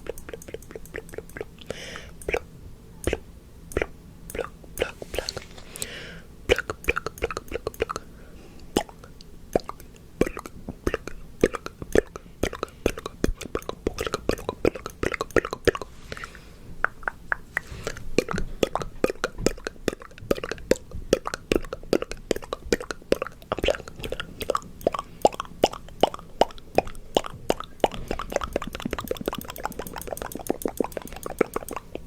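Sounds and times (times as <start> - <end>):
wet tongue clicks and lip pops: 0.0 - 2.4, 3.0 - 5.9, 6.5 - 8.1, 8.7 - 32.0.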